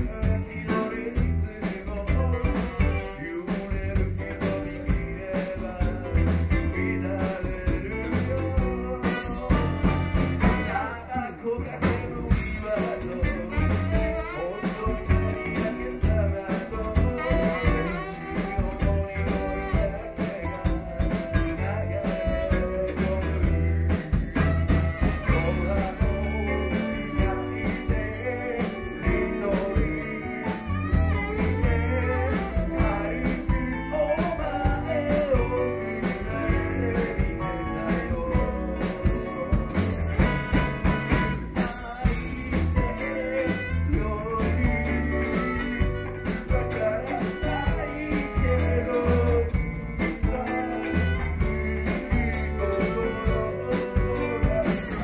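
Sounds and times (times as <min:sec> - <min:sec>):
backing track with drums and guitar: 0:00.0 - 0:55.0
man singing pop song: 0:00.0 - 0:55.0.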